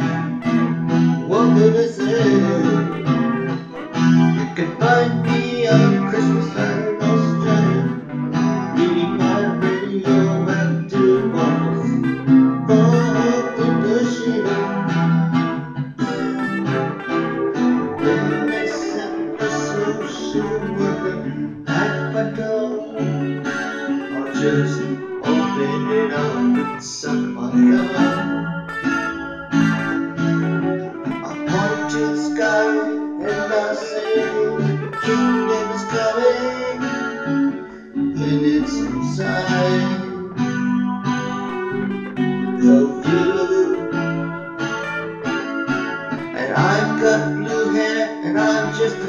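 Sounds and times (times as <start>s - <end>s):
guitar playing rhythmic chords: 0.0s - 49.0s.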